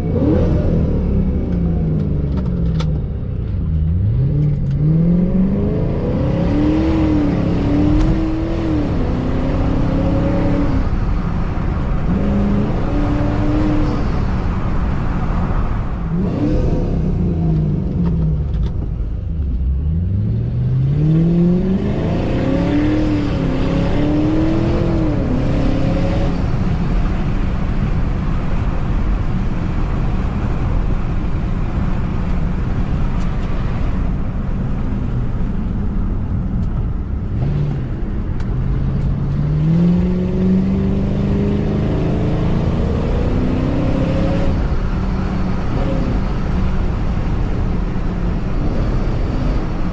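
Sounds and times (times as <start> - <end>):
car engine revving: 0.0 - 49.9
road noise: 0.0 - 49.9.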